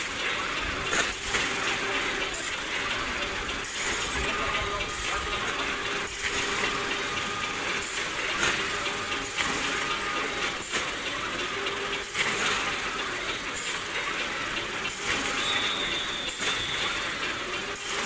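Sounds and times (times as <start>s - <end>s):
machinery knocks and clanks: 0.0s - 18.0s
steady machinery hiss: 0.0s - 18.0s.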